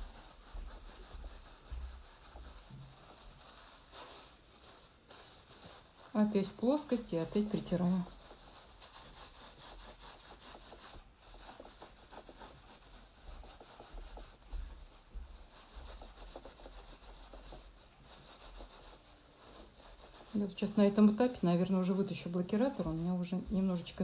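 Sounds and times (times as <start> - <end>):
hands rubbing wet wool: 0.0 - 24.0.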